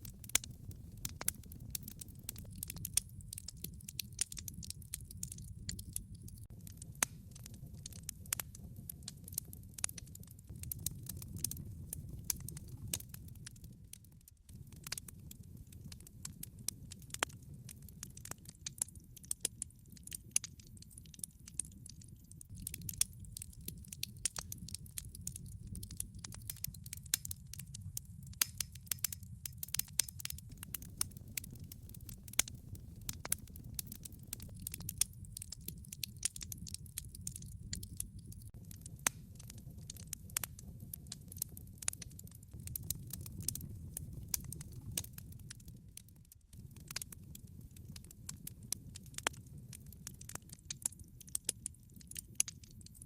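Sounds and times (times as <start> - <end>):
log fire crackling: 0.0 - 53.0.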